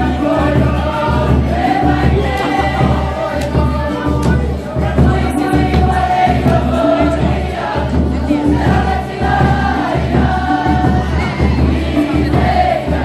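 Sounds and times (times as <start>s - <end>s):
steady drum beat: 0.0s - 13.0s
students singing in unison: 0.0s - 13.0s.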